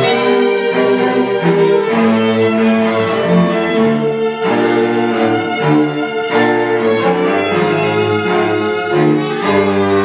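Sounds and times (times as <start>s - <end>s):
string quartet playing: 0.0s - 10.0s.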